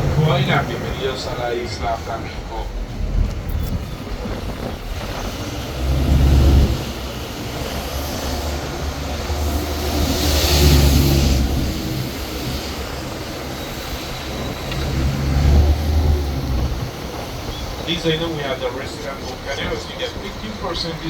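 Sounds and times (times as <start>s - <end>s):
bus engine running: 0.0s - 21.0s.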